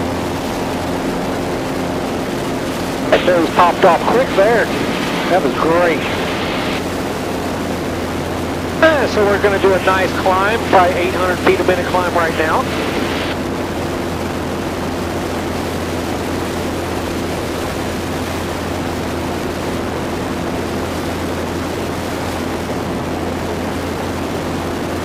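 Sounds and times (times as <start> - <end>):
aircraft engine and propeller drone: 0.0 - 25.0.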